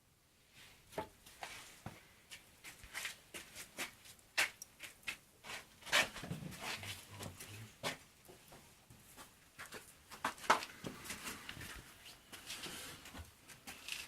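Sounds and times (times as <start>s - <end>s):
wood fire crackling: 0.4s - 14.0s.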